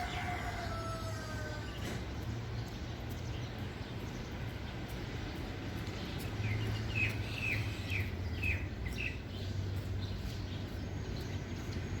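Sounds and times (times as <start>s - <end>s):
bird chirping: 1.4s - 12.0s.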